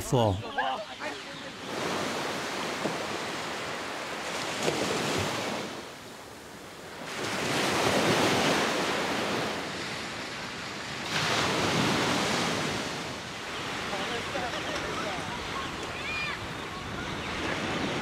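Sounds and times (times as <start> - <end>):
small waves breaking on sand: 1.0 - 18.0.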